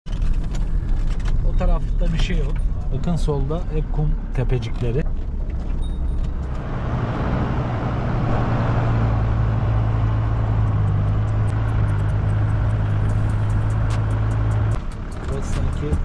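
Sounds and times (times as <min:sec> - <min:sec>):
tyre and road noise: 0:00.0 - 0:16.0
van engine droning: 0:00.1 - 0:16.0.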